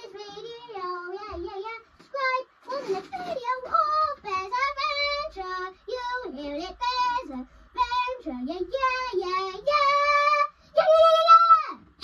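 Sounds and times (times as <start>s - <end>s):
child singing: 0.0s - 11.8s.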